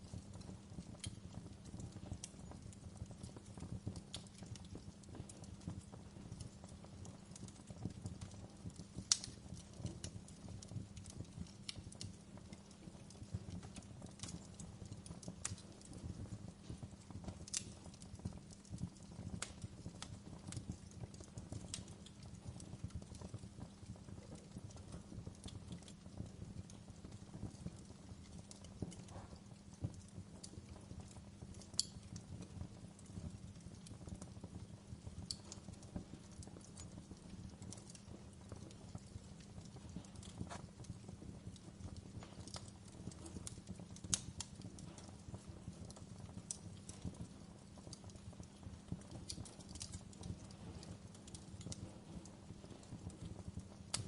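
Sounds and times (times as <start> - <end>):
low rumble of fire: 0.0 - 54.0
wood fire crackling and popping: 0.0 - 54.0.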